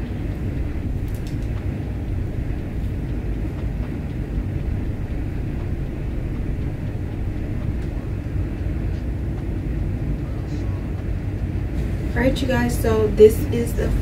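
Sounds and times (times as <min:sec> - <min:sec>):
low rumbling background noise: 0:00.0 - 0:14.0.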